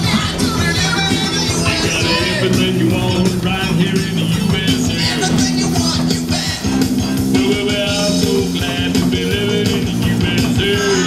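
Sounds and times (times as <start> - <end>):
electric guitar: 0.0 - 11.0
steady drum beat: 0.0 - 11.0.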